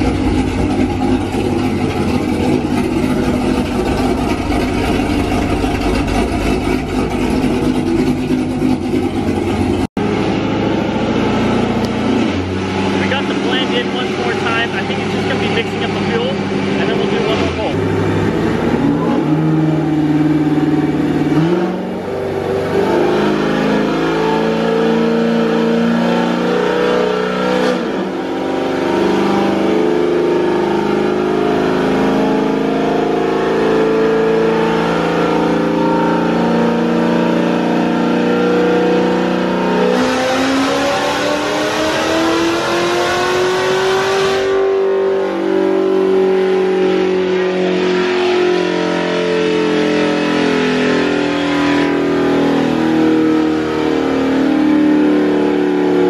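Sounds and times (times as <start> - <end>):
engine revving full throttle: 0.0 - 56.0
engine running on dyno: 0.0 - 56.0.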